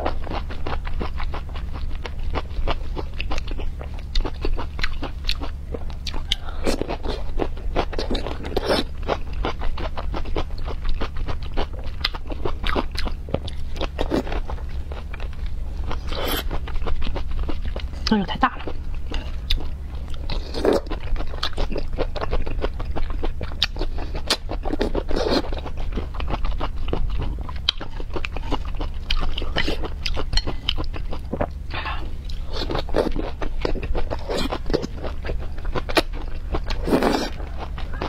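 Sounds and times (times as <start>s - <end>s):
chewing and crunching peppers: 0.0s - 38.0s.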